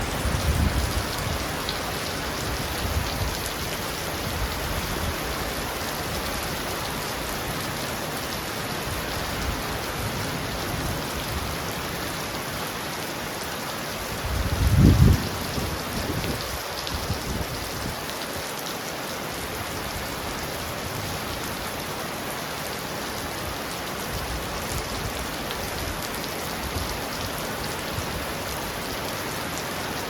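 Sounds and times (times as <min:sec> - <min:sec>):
heavy rain on a roof: 0:00.0 - 0:30.0.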